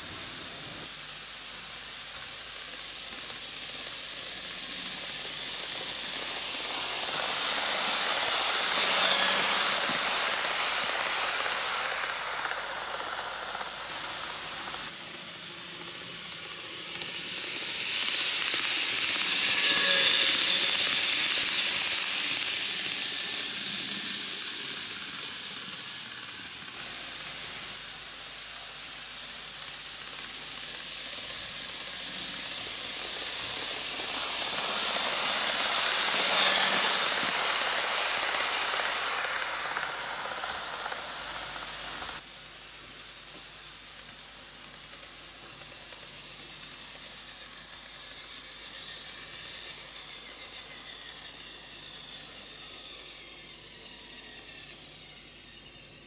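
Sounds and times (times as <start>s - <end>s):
model train wheels rattling: 0.0s - 56.0s.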